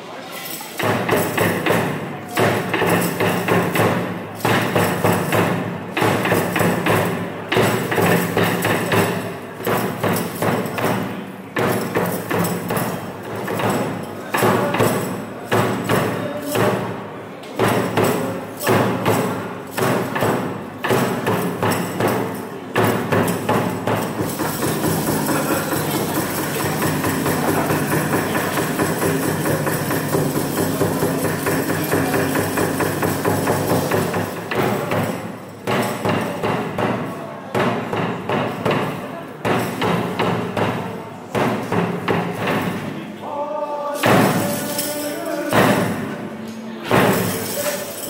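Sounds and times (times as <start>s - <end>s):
steady drum beats: 0.8s - 42.9s.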